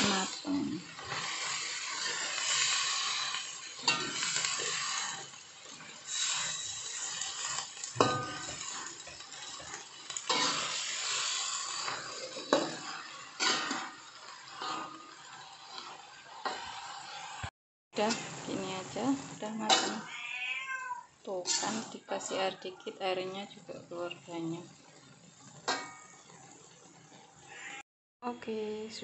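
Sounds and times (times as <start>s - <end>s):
metal spatula scraping wok: 0.0s - 20.4s, 21.3s - 27.8s
vegetables sizzling in a wok: 0.0s - 29.0s.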